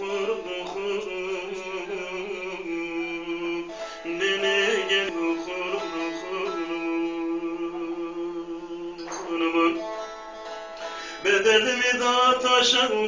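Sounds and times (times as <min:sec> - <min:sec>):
long-necked lute strummed and plucked: 0:00.0 - 0:13.0.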